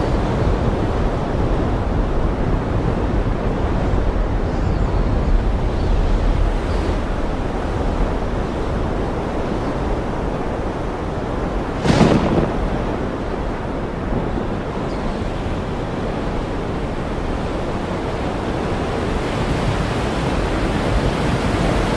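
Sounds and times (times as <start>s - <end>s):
wind on microphone: 0.0s - 21.9s.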